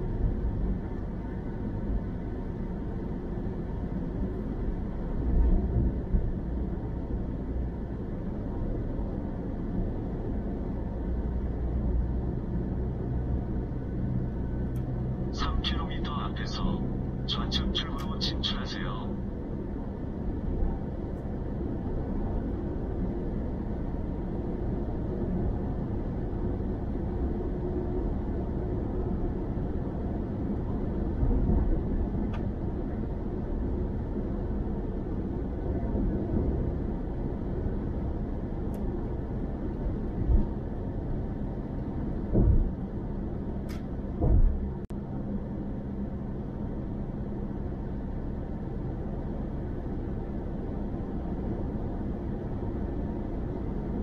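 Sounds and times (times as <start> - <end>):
low engine hum: 0.0 - 54.0
road and tyre rumble inside car: 0.0 - 54.0.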